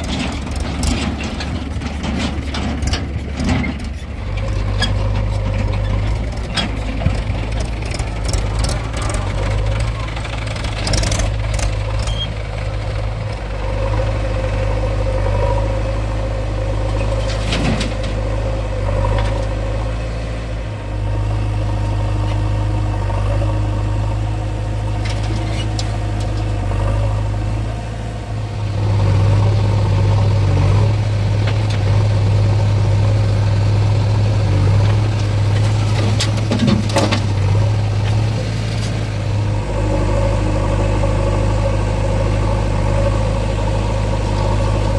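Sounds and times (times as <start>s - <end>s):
backhoe diesel engine running: 0.0s - 44.9s.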